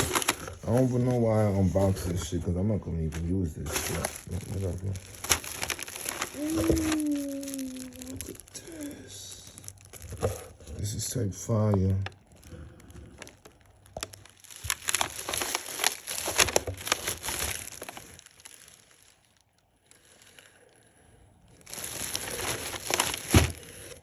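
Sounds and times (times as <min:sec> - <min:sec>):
packaging crinkling and rustling: 0:00.0 - 0:20.8, 0:21.5 - 0:24.0.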